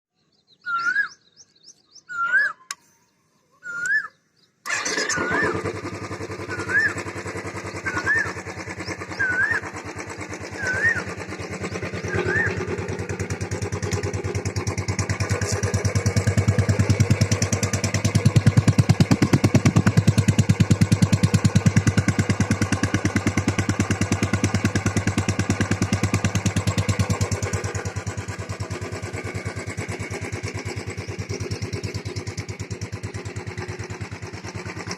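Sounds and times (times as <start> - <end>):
motorcycle engine starting and idling: 4.6 - 34.9.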